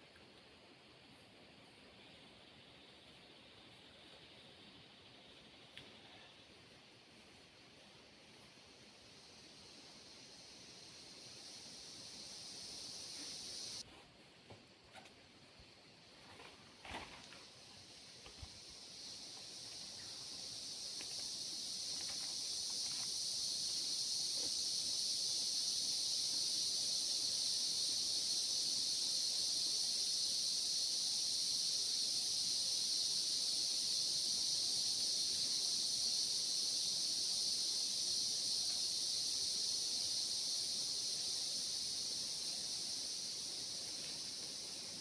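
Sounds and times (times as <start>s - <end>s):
insects buzzing: 0.0s - 13.9s, 14.6s - 45.0s.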